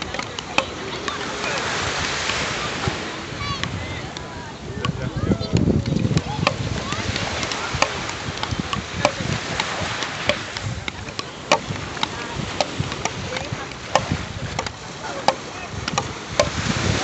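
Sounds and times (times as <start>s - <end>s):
wooden paddles striking ball: 0.0s - 2.5s, 3.6s - 17.0s.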